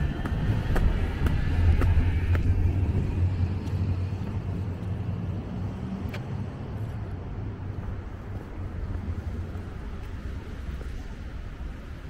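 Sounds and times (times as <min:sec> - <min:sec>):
passing vehicle rumble: 0:00.0 - 0:12.0.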